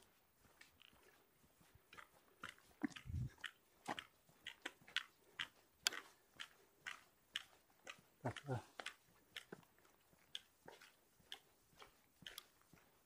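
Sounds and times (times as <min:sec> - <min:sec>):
footsteps crunching on dirt trail: 0:00.0 - 0:13.0.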